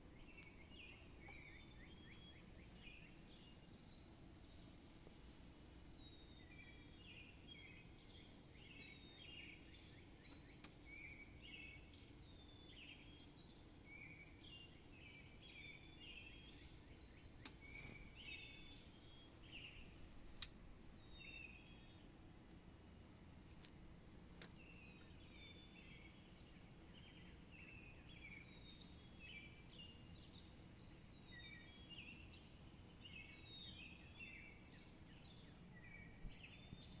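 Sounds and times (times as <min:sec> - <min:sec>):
faint low hum: 0:00.0 - 0:37.0
small birds chirping: 0:00.0 - 0:37.0.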